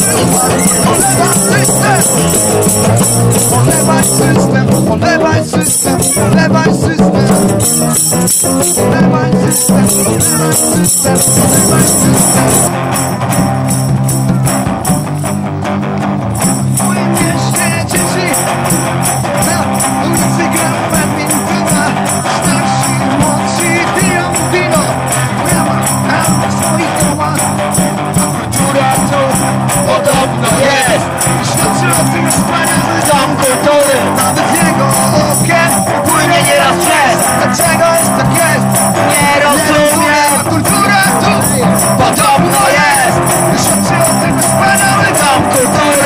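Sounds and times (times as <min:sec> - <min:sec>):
person singing: 0:00.0 - 0:12.7, 0:16.8 - 0:46.0
electric guitar through amplifier: 0:00.0 - 0:46.0
steady percussion beat: 0:00.0 - 0:46.0.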